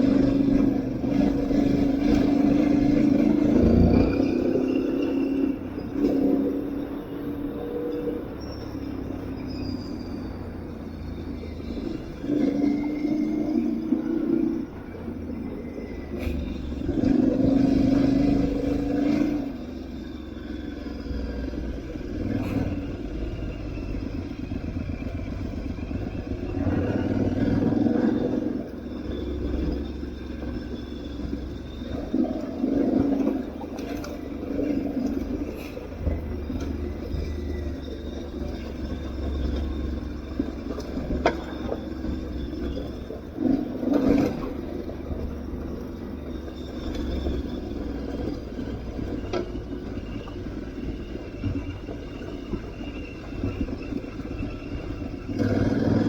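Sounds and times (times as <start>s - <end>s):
motorcycle engine revving: 0.0s - 9.5s, 10.3s - 50.3s, 52.9s - 56.0s.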